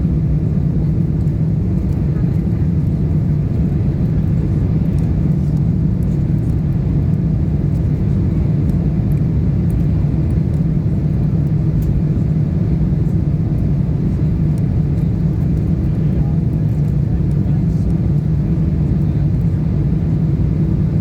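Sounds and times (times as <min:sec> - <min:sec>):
airliner drone: 0:00.0 - 0:21.0.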